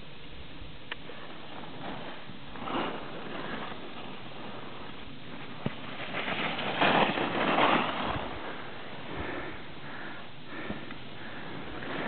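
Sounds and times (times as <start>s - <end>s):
low background hiss: 0.0s - 12.0s
skis scraping on snow: 1.1s - 12.0s.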